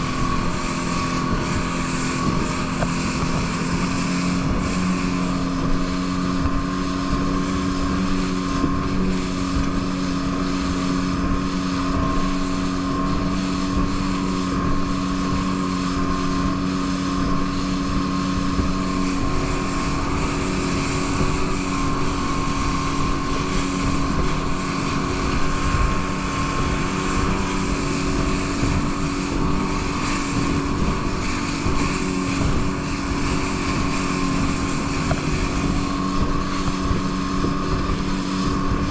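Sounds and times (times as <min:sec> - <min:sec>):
boat engine: 0:00.0 - 0:38.9
spray rushing along hull: 0:00.0 - 0:38.9.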